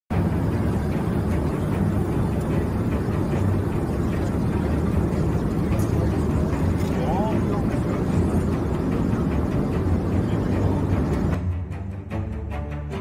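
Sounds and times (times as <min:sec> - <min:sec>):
aircraft cabin rumble: 0:00.1 - 0:11.5
faint passenger chatter: 0:00.2 - 0:11.4.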